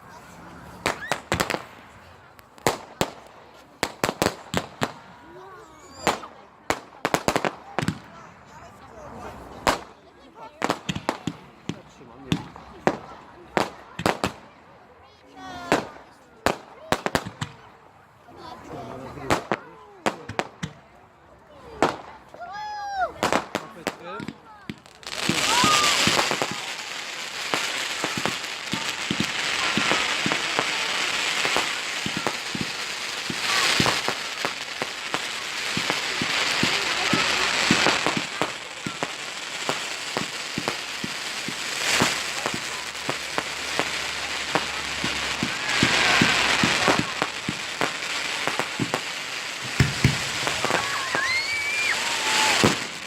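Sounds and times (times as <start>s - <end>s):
firework crackling: 0.0s - 14.6s, 15.3s - 17.8s, 18.4s - 21.0s, 21.6s - 53.0s
firework bangs: 0.6s - 8.6s, 9.2s - 14.5s, 15.4s - 17.8s, 21.7s - 53.0s.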